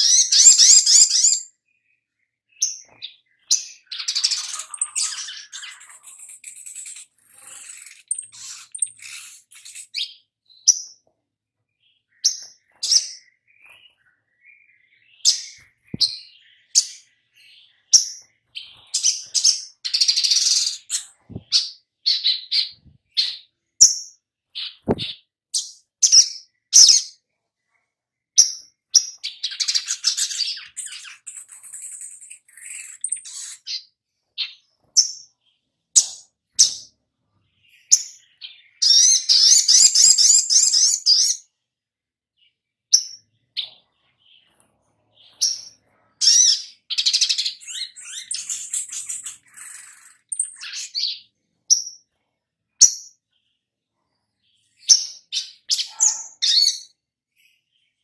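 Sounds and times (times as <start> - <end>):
sunbird chirping and twittering: 0.0 - 41.7, 42.4 - 58.0.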